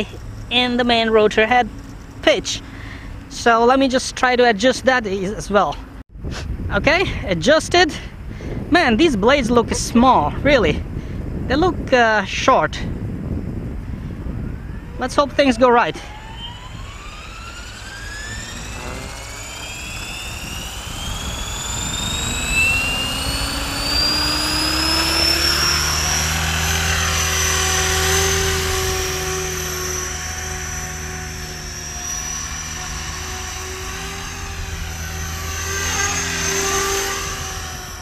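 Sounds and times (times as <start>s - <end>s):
helicopter motor and gear whine: 0.0s - 38.0s.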